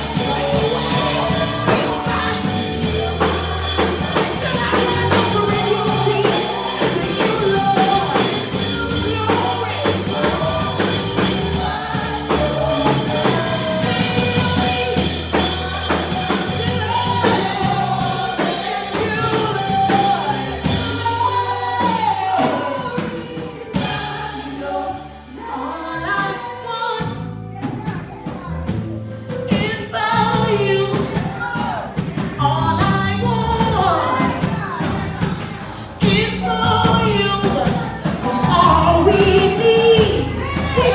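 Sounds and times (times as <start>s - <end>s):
bass guitar: 0.0s - 40.9s
drum kit: 0.0s - 40.9s
voices singing: 0.0s - 40.9s.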